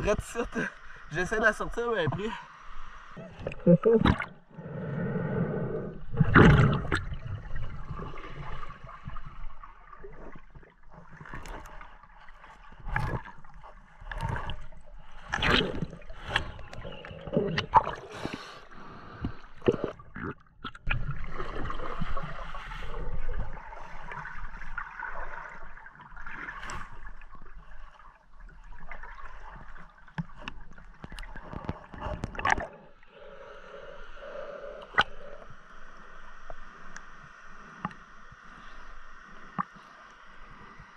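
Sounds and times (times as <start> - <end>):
river water gurgling and sloshing: 0.0 - 36.3.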